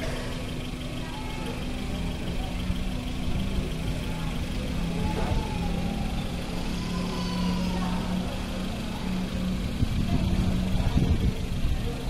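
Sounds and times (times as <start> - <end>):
engine idling low hum: 0.0 - 12.0.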